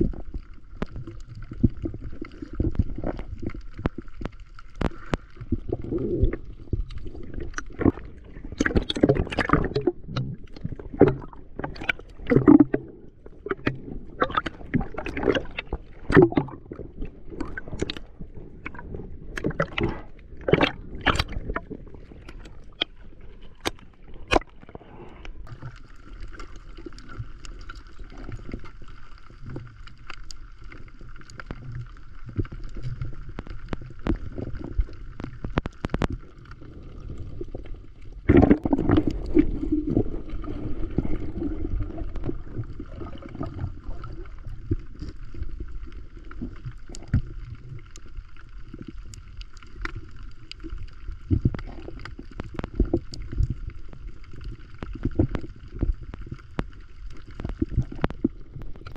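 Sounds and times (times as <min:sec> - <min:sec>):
low underwater rumble: 0:00.0 - 0:58.9
water gurgling: 0:00.0 - 0:58.9.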